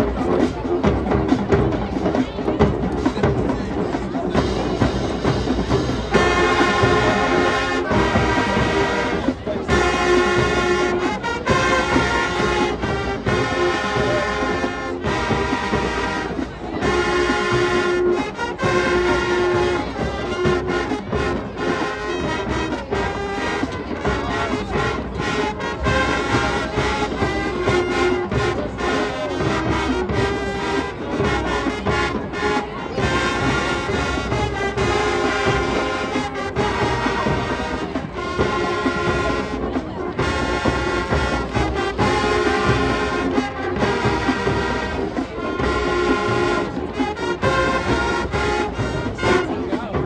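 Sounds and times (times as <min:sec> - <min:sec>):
drums: 0:00.0 - 0:50.0
marching band brass chords: 0:00.0 - 0:50.0.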